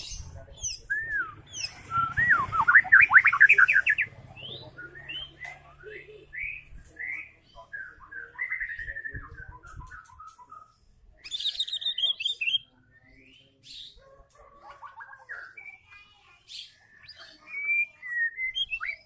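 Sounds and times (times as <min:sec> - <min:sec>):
bird singing fast whistled notes: 0:00.0 - 0:14.0, 0:16.5 - 0:19.0.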